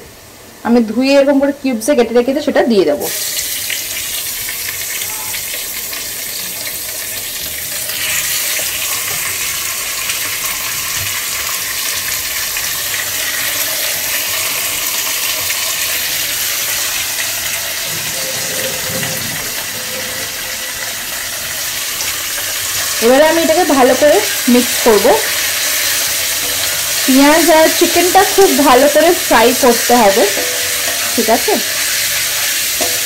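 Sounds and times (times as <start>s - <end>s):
onions sizzling in oil: 0.2s - 33.0s.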